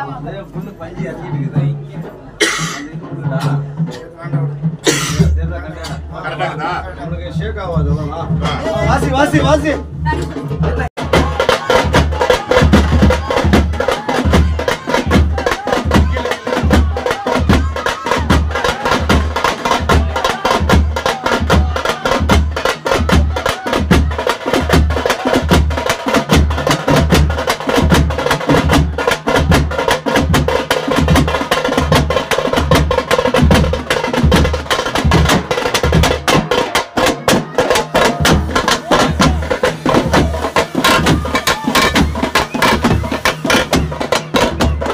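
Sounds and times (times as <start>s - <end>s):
drums playing fast rhythm: 0.0s - 44.9s.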